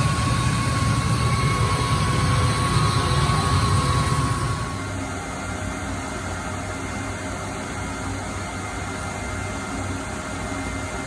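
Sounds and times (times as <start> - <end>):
shop machinery running: 0.0 - 11.0.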